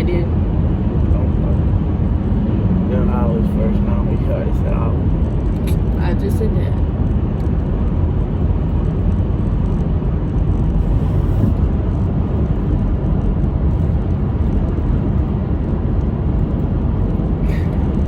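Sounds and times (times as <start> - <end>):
car cabin road and engine rumble: 0.0 - 18.0.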